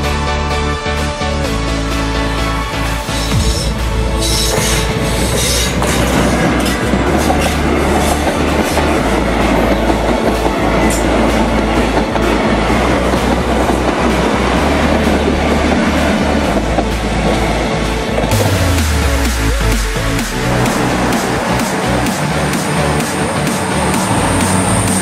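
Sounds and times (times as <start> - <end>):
diesel locomotive passing: 1.4 - 25.0.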